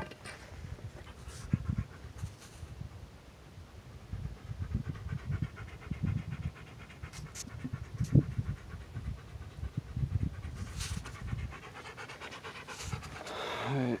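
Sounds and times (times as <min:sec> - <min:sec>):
wind buffeting microphone: 0:00.0 - 0:14.0
dog panting: 0:00.8 - 0:02.6, 0:04.2 - 0:14.0.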